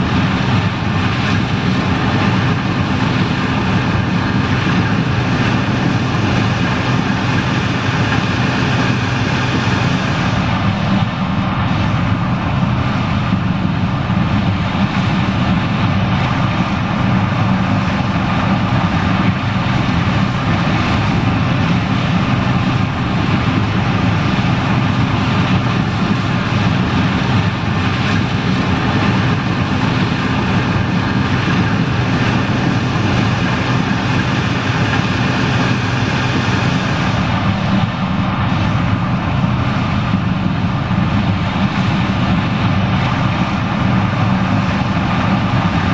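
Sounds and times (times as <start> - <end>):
combine engine drone: 0.0 - 45.9
machinery whirring: 0.0 - 45.9.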